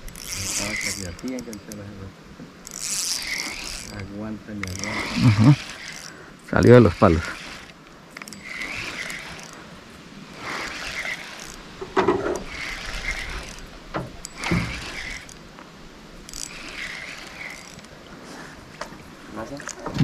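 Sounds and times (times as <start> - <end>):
fishing reel gears whirring: 0.0 - 2.0, 2.6 - 11.7, 12.3 - 15.4, 16.2 - 18.0.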